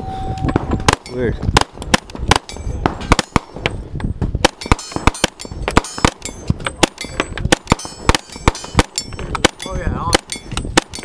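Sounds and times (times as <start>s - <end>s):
gunshots: 0.6s - 3.8s, 4.4s - 11.0s.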